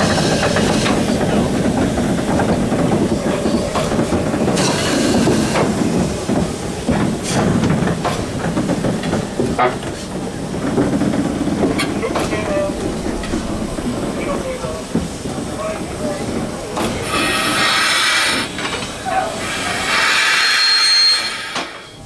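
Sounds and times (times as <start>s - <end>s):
locomotive running gear knocking: 0.0s - 17.8s
steam hiss: 0.0s - 22.0s.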